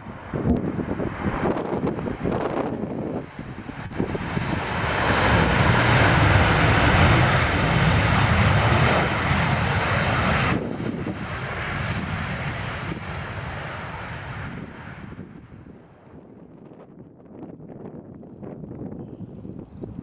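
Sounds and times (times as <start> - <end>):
jet airliner engines landing: 0.0 - 20.0.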